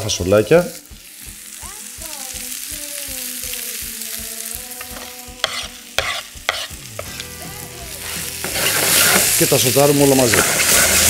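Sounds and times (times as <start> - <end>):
beans sizzling in frying pan: 0.0 - 11.0.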